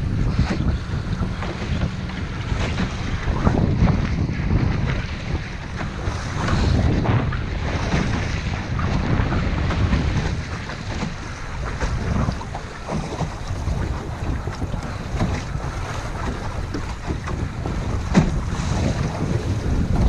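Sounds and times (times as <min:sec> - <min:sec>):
water splashing along hull: 0:00.0 - 0:20.0
wind buffeting microphone: 0:00.0 - 0:20.0.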